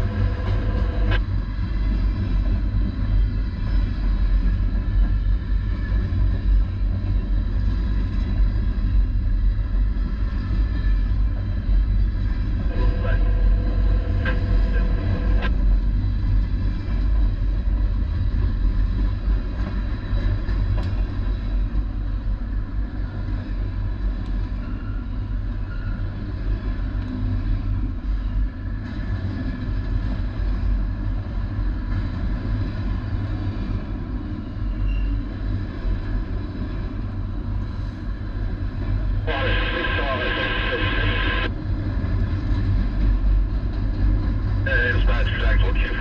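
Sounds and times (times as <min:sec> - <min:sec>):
freight train rumbling: 0:00.0 - 0:46.0.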